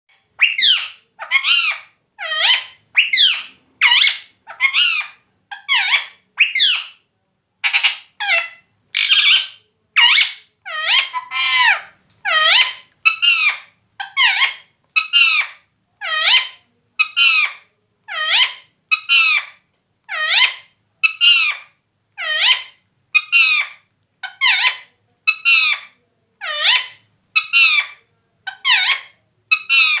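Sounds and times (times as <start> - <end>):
parrot calling: 0.4 - 7.0, 7.6 - 30.0.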